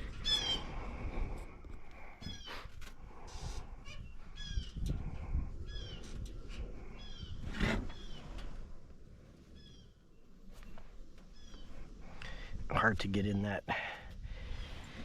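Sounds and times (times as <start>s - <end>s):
birds calling: 0.0s - 1.0s, 1.9s - 15.0s.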